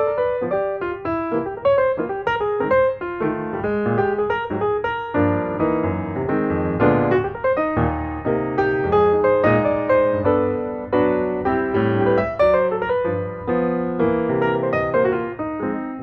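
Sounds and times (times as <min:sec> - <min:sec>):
piano music with quick notes: 0:00.0 - 0:16.0.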